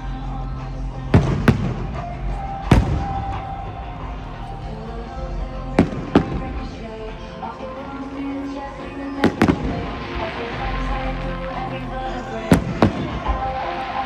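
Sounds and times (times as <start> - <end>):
music: 0.0 - 14.0
fireworks bangs: 1.1 - 14.0.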